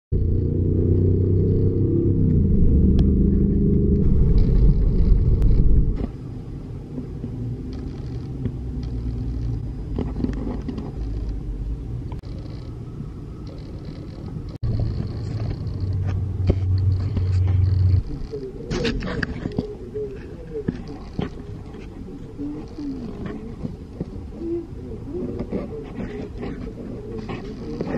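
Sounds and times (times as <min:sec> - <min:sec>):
car interior rumble: 0:00.1 - 0:27.9.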